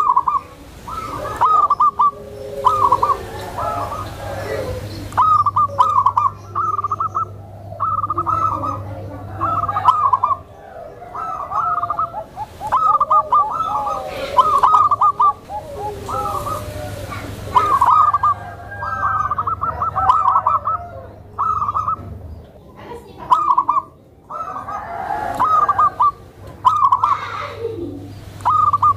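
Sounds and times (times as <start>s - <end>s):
doves cooing: 0.0s - 28.9s
steady low hum: 0.0s - 28.9s.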